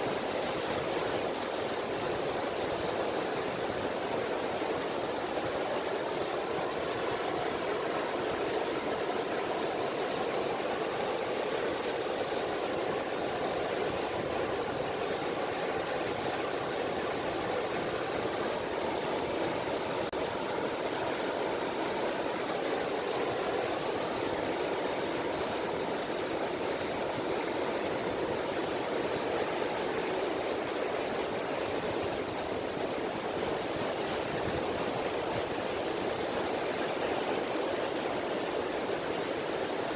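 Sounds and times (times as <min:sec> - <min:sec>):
gentle waves washing ashore: 0:00.0 - 0:39.9.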